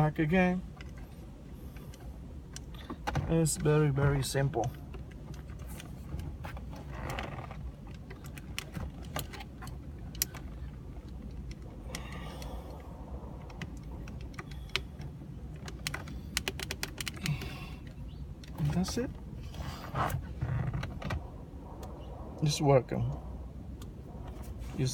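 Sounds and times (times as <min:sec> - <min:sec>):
low hum: 0:00.0 - 0:24.9.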